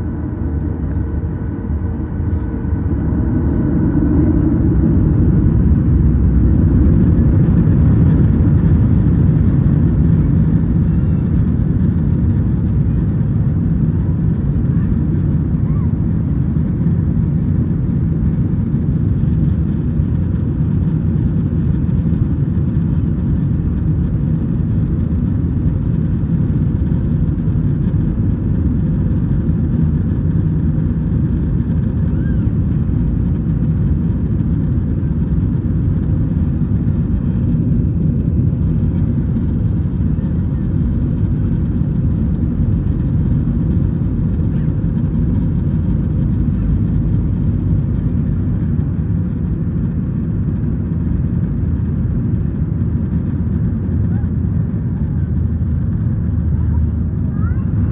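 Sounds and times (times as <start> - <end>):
jet engines rumbling in cabin: 0.0 - 57.9.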